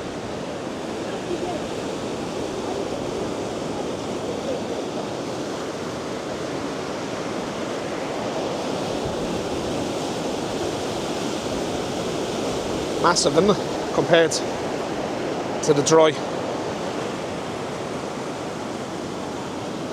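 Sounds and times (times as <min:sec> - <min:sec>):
rush of fast-flowing water: 0:00.0 - 0:19.9.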